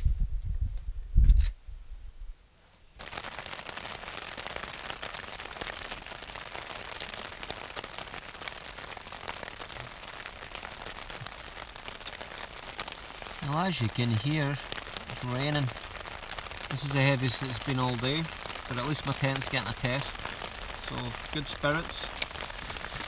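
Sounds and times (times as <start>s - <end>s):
heavy rain on tent fabric: 2.9s - 23.0s.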